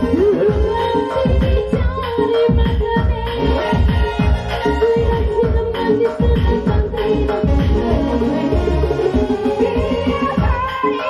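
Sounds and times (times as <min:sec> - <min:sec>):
fast drum pattern: 0:00.0 - 0:11.0
keyboard lead melody: 0:00.0 - 0:11.0.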